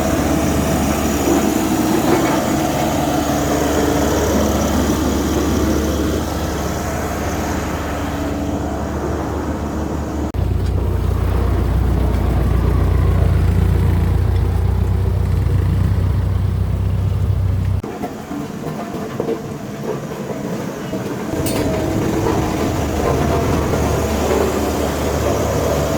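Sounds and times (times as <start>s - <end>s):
diesel engines humming: 0.0s - 17.9s, 21.2s - 25.9s.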